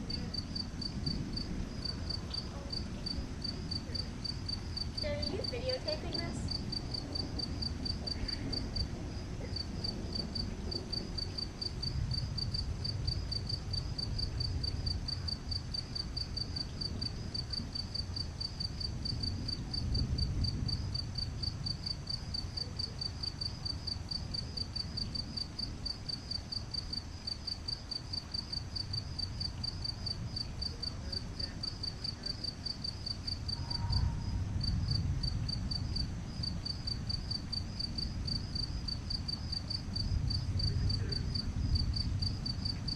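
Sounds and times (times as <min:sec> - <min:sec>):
crickets chirping: 0:00.0 - 0:42.9
distant thunder rumbling: 0:00.0 - 0:42.9.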